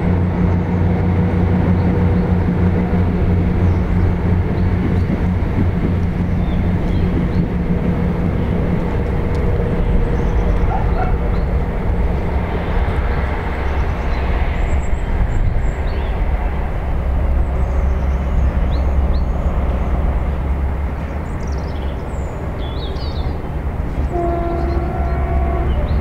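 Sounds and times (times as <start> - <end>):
diesel train approaching: 0.0 - 26.0
birds chirping: 1.4 - 16.7, 17.3 - 26.0.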